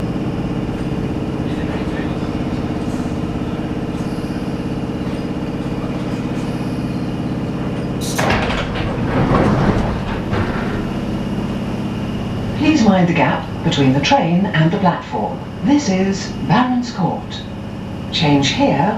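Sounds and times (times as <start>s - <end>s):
train electrical hum: 0.0s - 18.9s.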